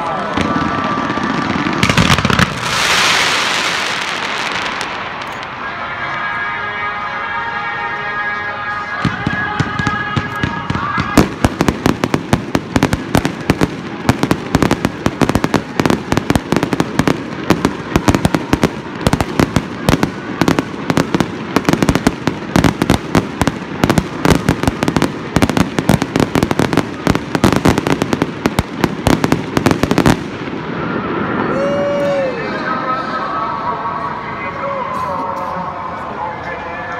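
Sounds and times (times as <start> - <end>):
fireworks bangs and crackling: 0.0 - 6.4, 8.8 - 32.9.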